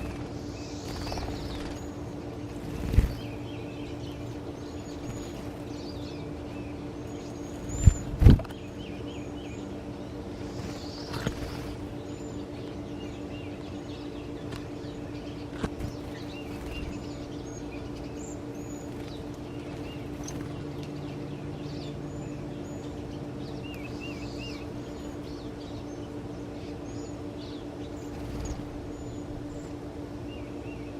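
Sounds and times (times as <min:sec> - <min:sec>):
small birds chirping: 0:00.0 - 0:30.9
steady low hum: 0:00.0 - 0:30.9.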